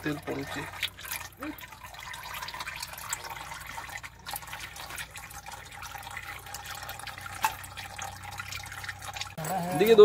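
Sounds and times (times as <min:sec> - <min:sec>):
oil dripping into a bucket: 0:00.0 - 0:10.0.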